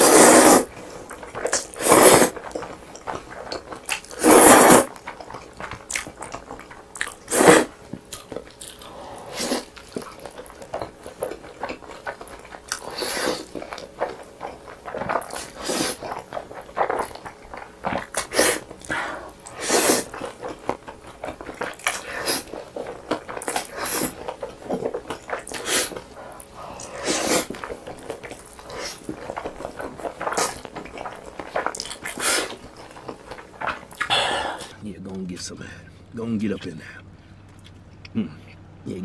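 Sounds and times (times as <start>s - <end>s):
noodles slurped loudly: 0.0s - 34.8s
wet chewing: 0.0s - 34.8s, 37.1s - 39.0s.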